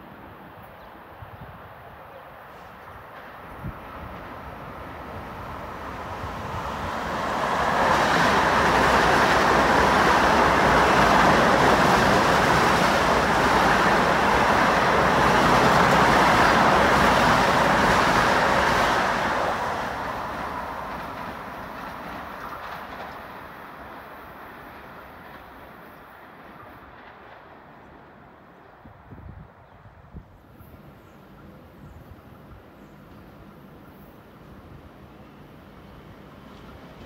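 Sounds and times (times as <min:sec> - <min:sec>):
train wheels rumbling on rails: 0:01.5 - 0:29.6, 0:30.2 - 0:37.0.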